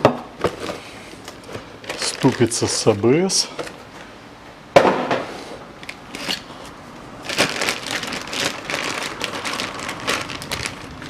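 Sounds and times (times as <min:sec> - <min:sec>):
packaging crinkling and rustling: 0:00.4 - 0:04.1, 0:05.8 - 0:11.0.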